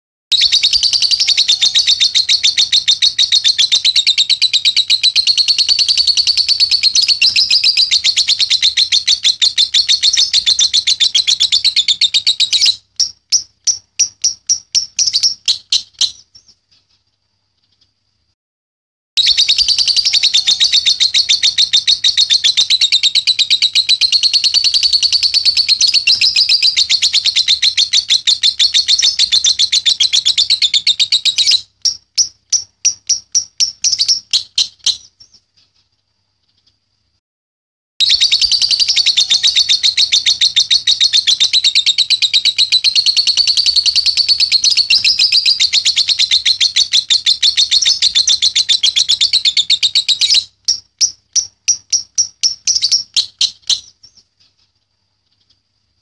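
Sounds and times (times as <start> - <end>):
bird chattering rapidly: 0.6 - 16.5, 19.2 - 35.2, 38.1 - 54.2.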